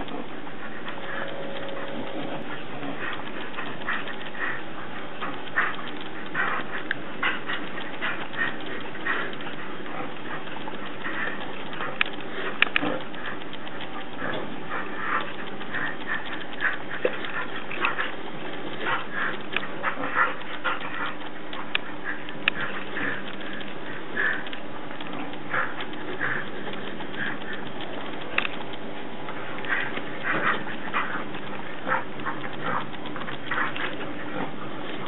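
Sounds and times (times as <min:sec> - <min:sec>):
sharp clicks: 0:00.0 - 0:35.0.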